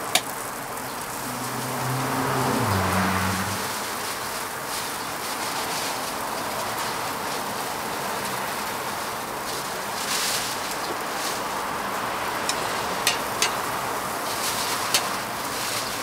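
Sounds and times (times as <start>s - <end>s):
food sizzling on a griddle: 0.0s - 16.0s.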